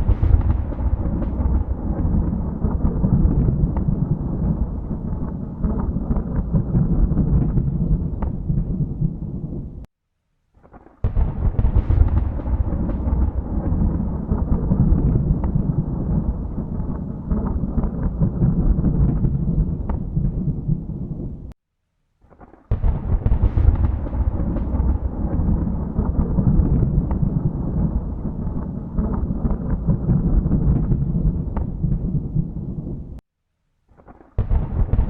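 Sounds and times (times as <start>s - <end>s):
thunder rumbling: 0.0s - 9.9s, 11.0s - 21.5s, 22.7s - 33.2s, 34.4s - 35.0s.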